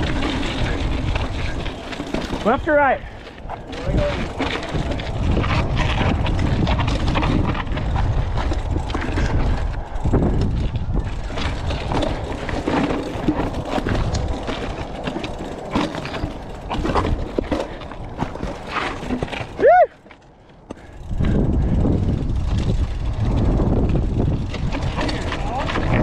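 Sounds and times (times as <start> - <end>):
chain and bike parts clattering: 0.0 - 19.6, 20.8 - 26.0
wind rumble on microphone: 0.0 - 19.9, 20.8 - 26.0
bike tyres crunching over rock: 0.0 - 26.0.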